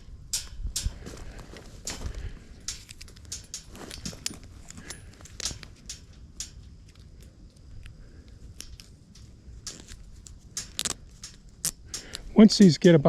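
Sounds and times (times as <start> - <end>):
cable ties clicking and rattling: 0.0 - 13.0.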